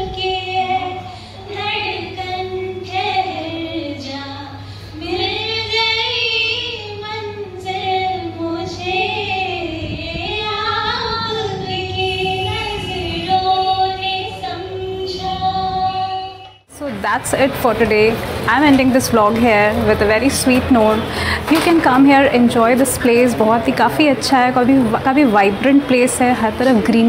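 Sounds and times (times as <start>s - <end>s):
woman singing into microphone: 0.0s - 16.5s, 17.3s - 27.0s.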